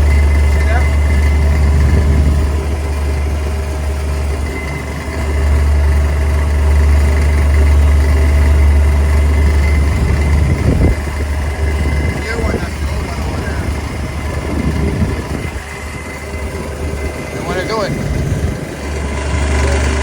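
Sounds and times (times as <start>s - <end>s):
condensing unit humming: 0.0s - 20.0s.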